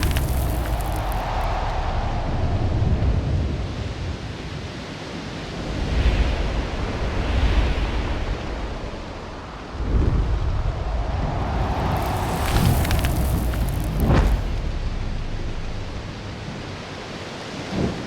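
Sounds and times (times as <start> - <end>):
rushing wind with low rumble: 0.0 - 18.0.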